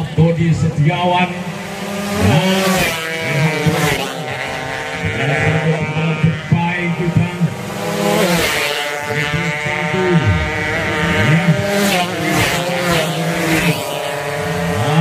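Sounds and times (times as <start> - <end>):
racing motorcycles passing: 1.2 - 15.0.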